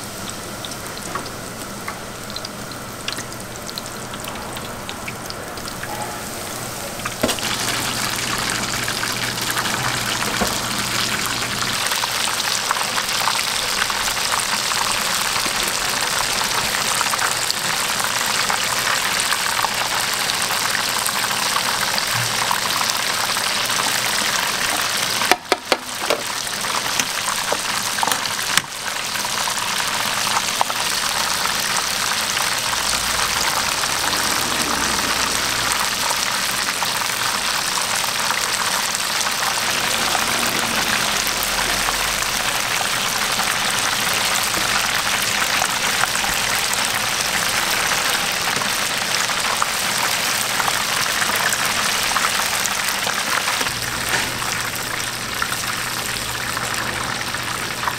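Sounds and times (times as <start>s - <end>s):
deep-frying sizzle and crackle: 0.0s - 57.9s.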